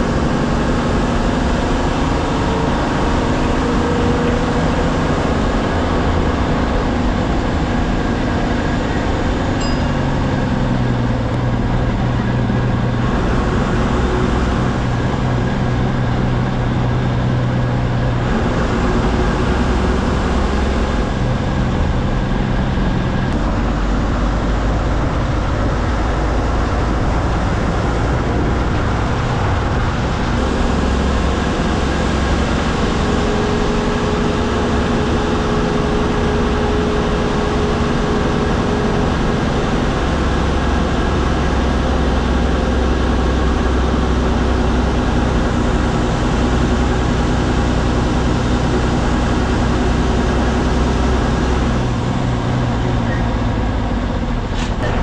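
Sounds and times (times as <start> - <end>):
bus engine drone: 0.0 - 55.0
road noise and rattling: 0.0 - 55.0.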